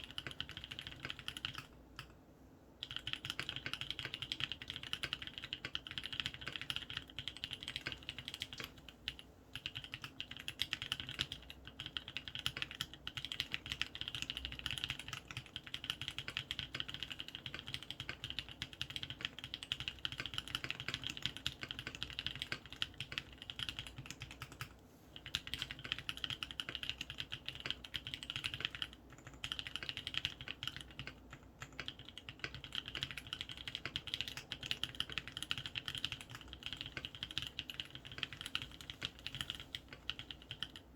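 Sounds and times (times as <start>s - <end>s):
fast typing on mechanical keyboard: 0.0s - 2.1s, 2.8s - 40.9s.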